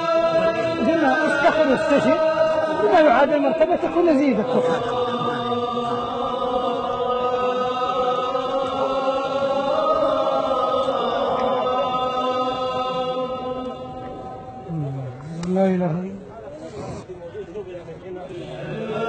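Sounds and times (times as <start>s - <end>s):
person chanting a long note: 0.0s - 15.5s.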